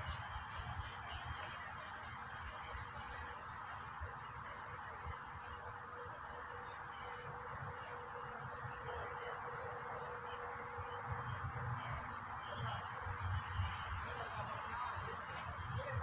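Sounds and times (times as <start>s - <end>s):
constant hiss: 0.0s - 16.0s
insects chirping: 0.0s - 16.0s.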